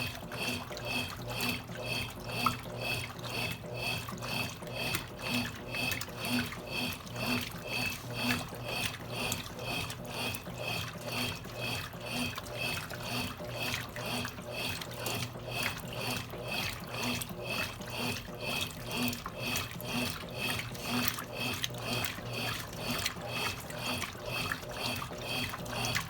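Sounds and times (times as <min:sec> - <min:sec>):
motor hum: 0:00.0 - 0:26.0
water sloshing in washing machine: 0:00.0 - 0:26.0.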